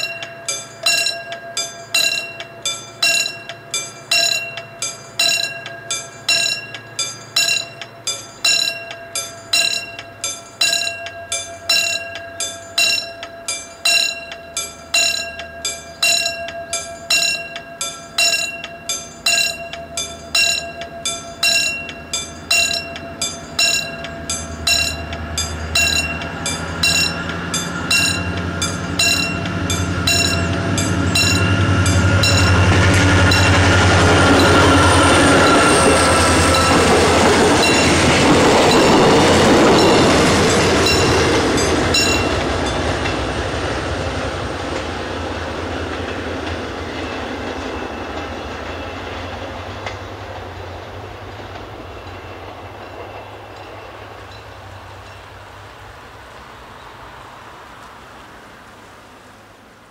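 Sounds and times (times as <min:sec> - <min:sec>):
railroad crossing bell dinging: 0:00.0 - 0:55.8
train wheels on rails: 0:00.0 - 0:58.8
train rumbling past: 0:00.0 - 0:59.9.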